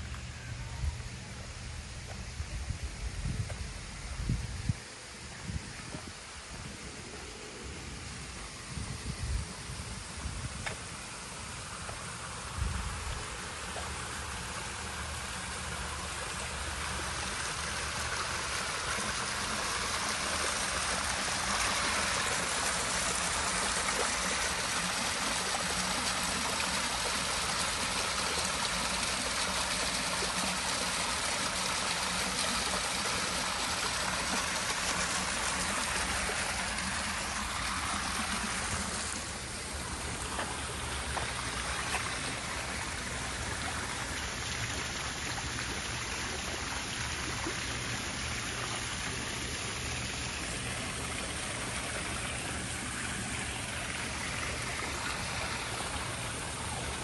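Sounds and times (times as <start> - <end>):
rushing trickling water: 7.8 - 57.0.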